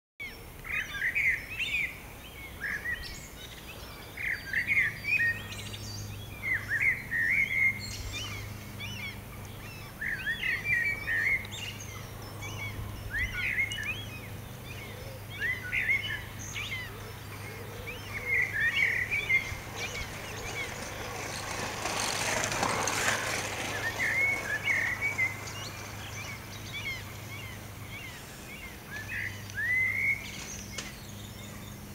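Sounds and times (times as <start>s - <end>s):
songbird singing: 0.2s - 31.9s.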